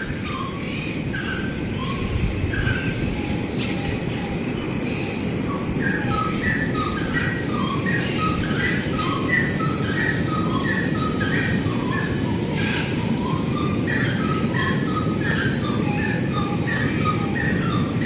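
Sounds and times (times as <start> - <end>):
low rumbling noise: 0.0 - 18.0.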